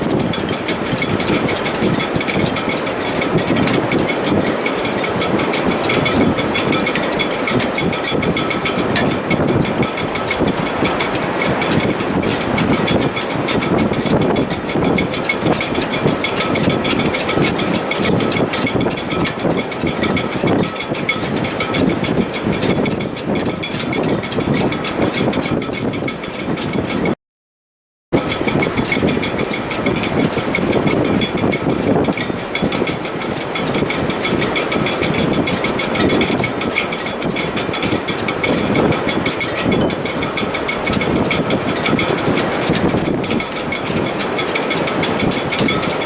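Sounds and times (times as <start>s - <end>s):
wind roaring in rigging: 0.0s - 27.2s, 28.1s - 46.0s.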